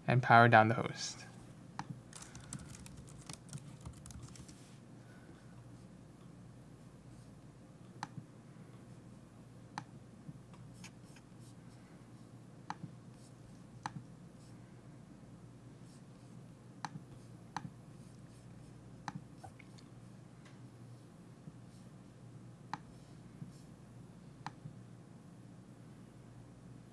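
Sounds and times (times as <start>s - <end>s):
faint low hum: 0.0s - 26.9s.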